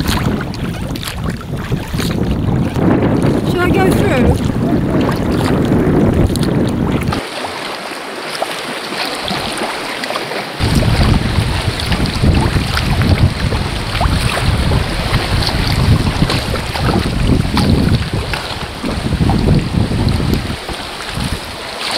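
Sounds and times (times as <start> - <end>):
wind rumbling on microphone: 0.0 - 7.3, 10.6 - 21.9
water splashing around kayak: 0.0 - 21.9.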